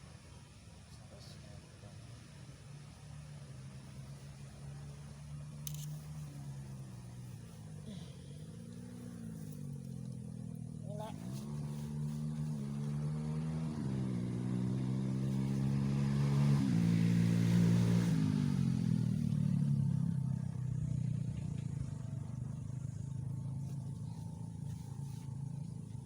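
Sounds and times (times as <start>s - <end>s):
vehicle engine passing by: 1.1s - 26.0s.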